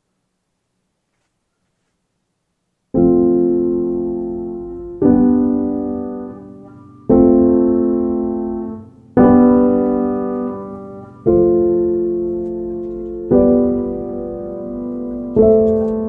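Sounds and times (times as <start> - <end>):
slow piano chords: 2.9 - 16.0.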